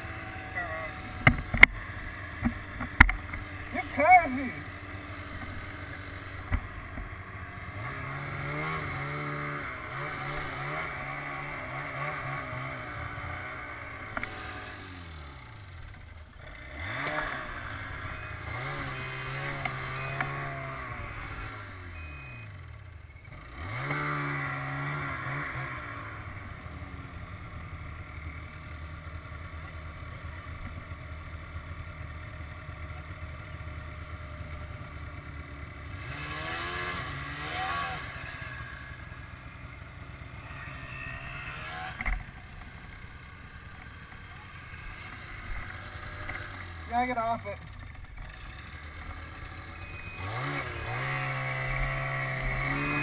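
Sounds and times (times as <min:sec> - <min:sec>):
snowmobile engine accelerating: 0:00.0 - 0:53.0.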